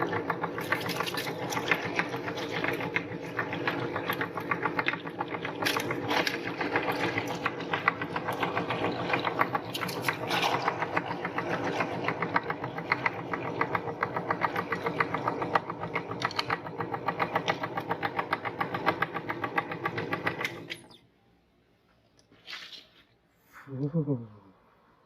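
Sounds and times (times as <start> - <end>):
electric meat grinder running: 0.0 - 20.7.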